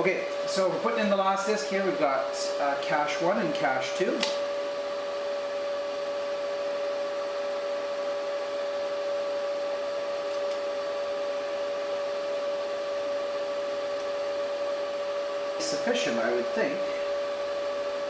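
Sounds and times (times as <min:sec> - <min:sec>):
computer cooling fans whirring: 0:00.0 - 0:18.0.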